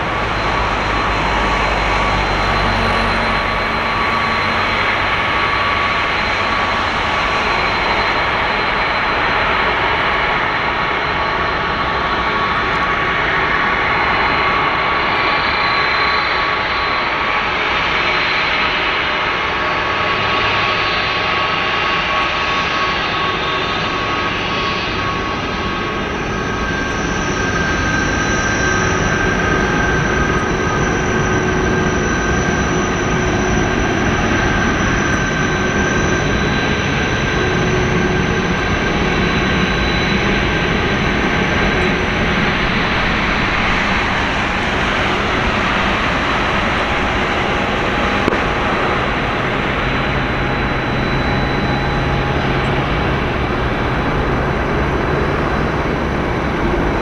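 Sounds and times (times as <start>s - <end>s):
jet engines roaring and whining: 0.0s - 57.0s.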